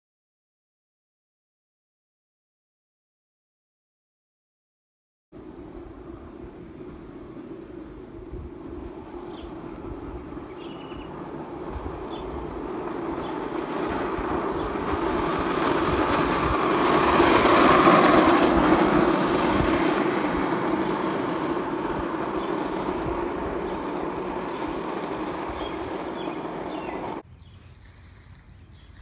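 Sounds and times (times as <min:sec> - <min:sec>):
scooter wheels rolling on asphalt: 0:05.4 - 0:29.0.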